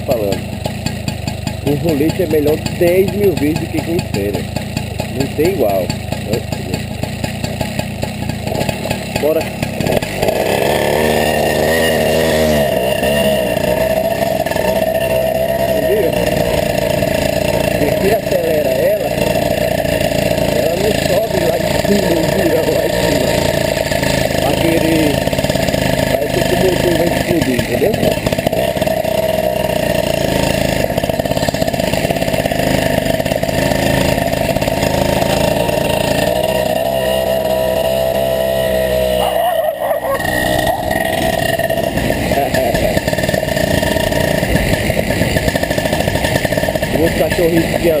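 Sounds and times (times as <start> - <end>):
moped engine accelerating: 0.0 - 48.0.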